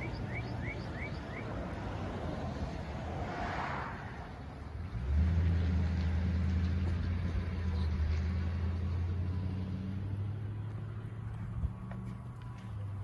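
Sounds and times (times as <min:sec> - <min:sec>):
motor vehicle engine humming: 0:00.0 - 0:13.0.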